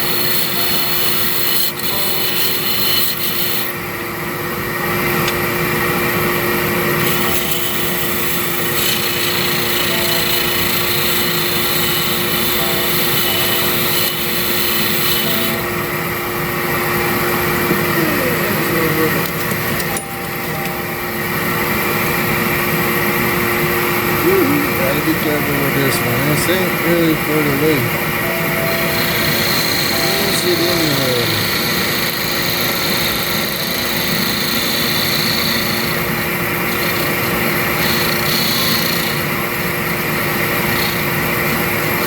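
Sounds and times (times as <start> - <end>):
tool working wood: 0.0 - 3.9, 4.9 - 42.0
shop vacuum running: 0.0 - 42.0
wood lathe spinning: 0.0 - 42.0.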